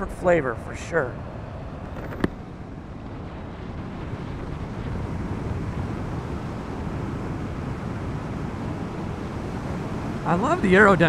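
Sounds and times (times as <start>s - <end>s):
tyre and road noise: 0.0s - 11.0s
wind buffeting microphone: 0.0s - 11.0s.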